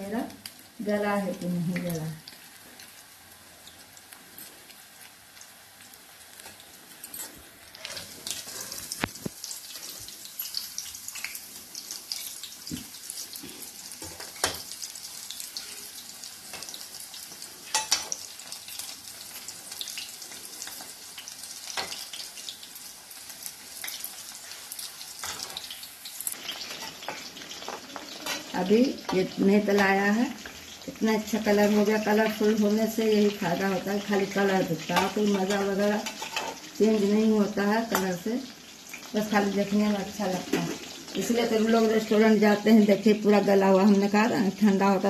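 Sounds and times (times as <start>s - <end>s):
chicken deep-frying in oil: 0.0s - 45.0s.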